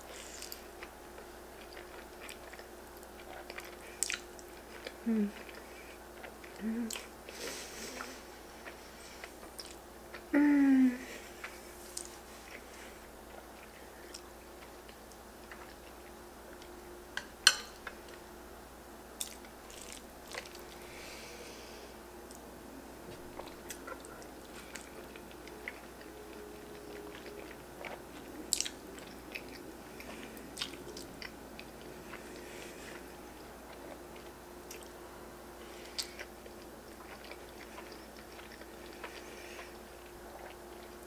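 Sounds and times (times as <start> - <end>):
chewing and mouth sounds: 0.2 - 7.4, 8.0 - 10.3, 11.3 - 16.7, 19.2 - 20.9, 23.1 - 35.0, 35.8 - 41.0.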